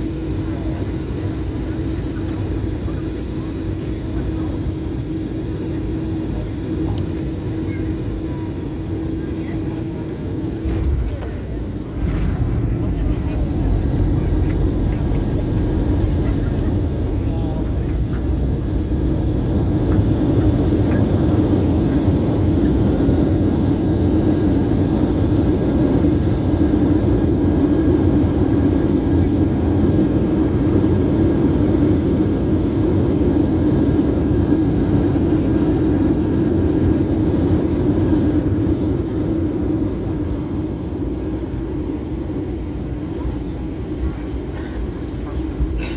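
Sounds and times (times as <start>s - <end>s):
jet engines rumbling: 0.0s - 45.9s.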